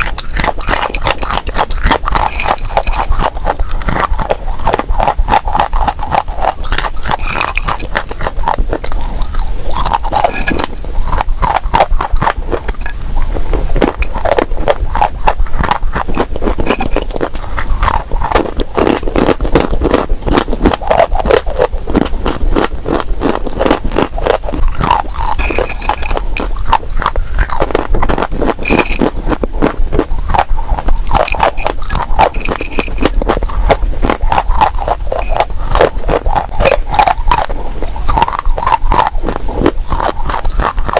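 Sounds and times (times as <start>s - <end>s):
dry clay crunching: 0.0s - 40.9s.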